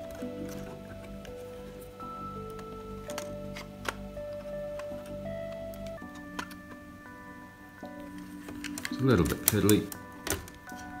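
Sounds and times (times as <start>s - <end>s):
held electronic notes music: 0.0s - 11.0s.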